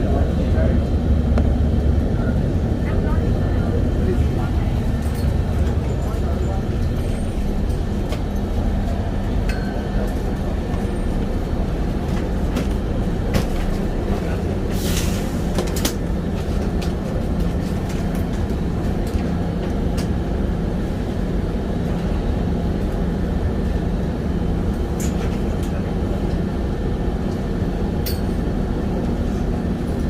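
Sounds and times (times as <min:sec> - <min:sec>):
vehicle rumble from inside: 0:00.0 - 0:30.0.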